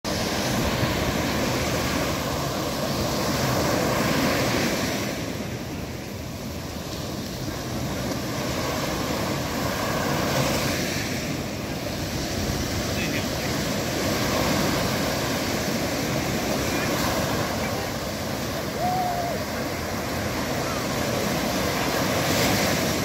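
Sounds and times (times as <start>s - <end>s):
small waves breaking on beach: 0.1s - 23.0s.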